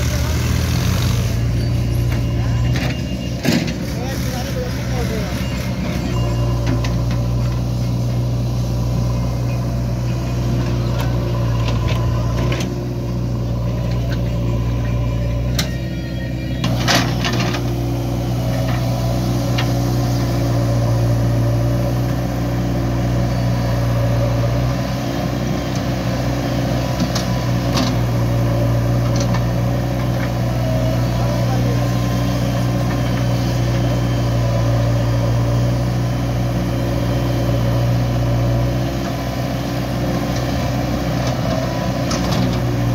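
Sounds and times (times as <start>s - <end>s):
diesel engine running: 0.0s - 42.9s
engine knocks and clanks: 0.0s - 42.9s.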